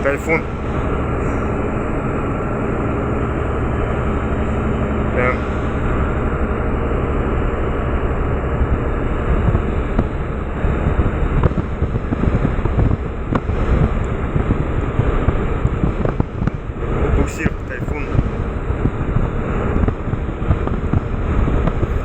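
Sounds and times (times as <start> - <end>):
diesel engines running: 0.0 - 22.0
wind buffeting microphone: 0.0 - 22.0.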